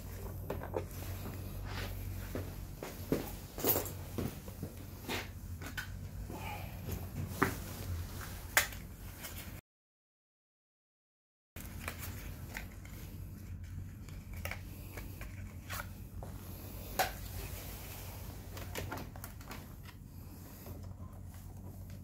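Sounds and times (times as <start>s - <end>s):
low room hum: 0.0s - 9.6s, 11.6s - 22.0s.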